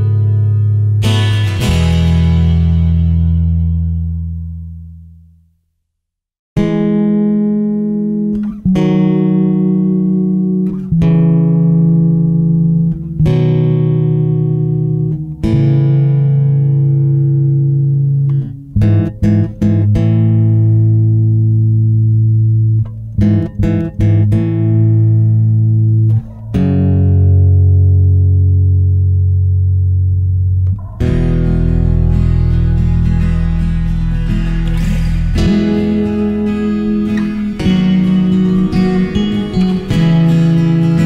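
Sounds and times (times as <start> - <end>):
guitar music with bass line: 0.0 - 5.4, 6.6 - 41.0.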